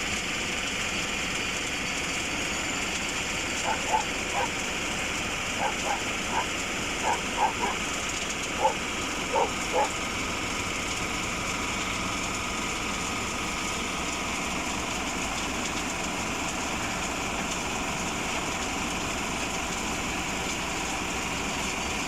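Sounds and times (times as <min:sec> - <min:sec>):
excavator diesel engine droning: 0:00.0 - 0:22.0.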